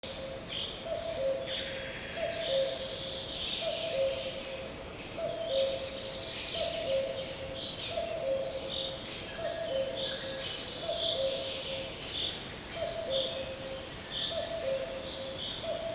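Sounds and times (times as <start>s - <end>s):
birds chirping songs: 0.0s - 15.9s.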